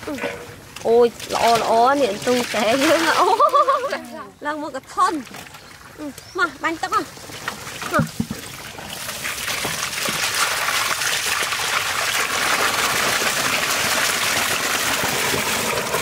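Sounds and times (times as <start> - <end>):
eels splashing and churning: 0.0 - 4.1, 4.8 - 16.0
water gushing into metal basin: 0.0 - 4.1, 7.0 - 16.0.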